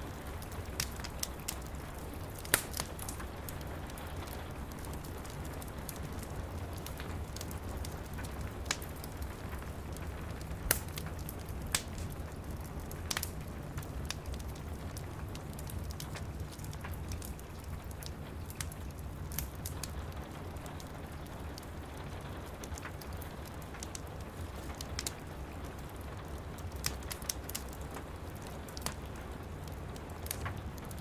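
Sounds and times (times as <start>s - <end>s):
steady rain: 0.0s - 31.0s
wood fire crackling: 0.0s - 31.0s.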